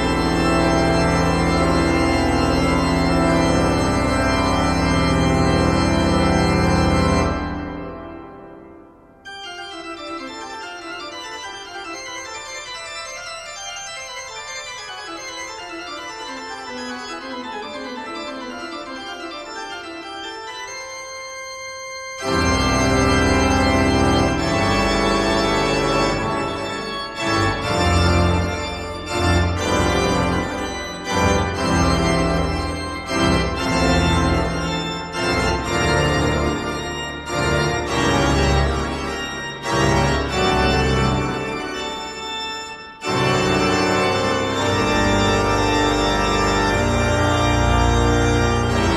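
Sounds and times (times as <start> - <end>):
organ music: 0.0 - 48.9.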